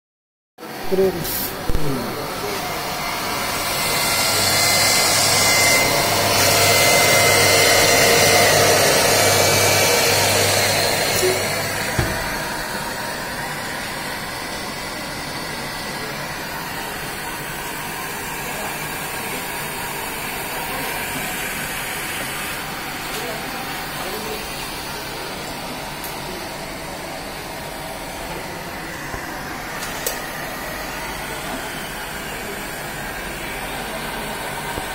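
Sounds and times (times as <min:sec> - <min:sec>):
turning machine whirring: 0:00.9 - 0:34.9.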